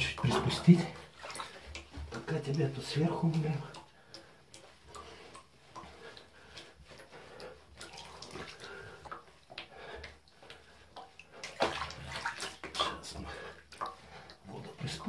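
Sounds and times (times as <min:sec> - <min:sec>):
water splashing in bath: 0:00.0 - 0:15.0.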